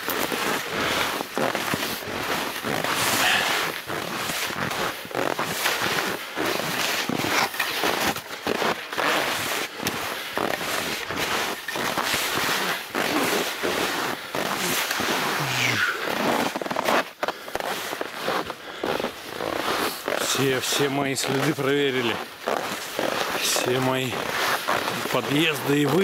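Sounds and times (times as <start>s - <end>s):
skis crunching on frozen snow: 0.0s - 26.0s.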